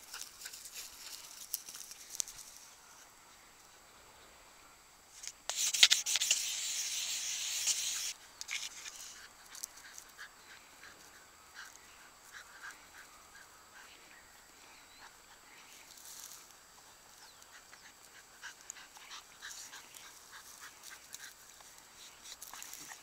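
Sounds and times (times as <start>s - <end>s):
faint rustles and ticks: 0.0s - 3.7s, 8.1s - 23.0s.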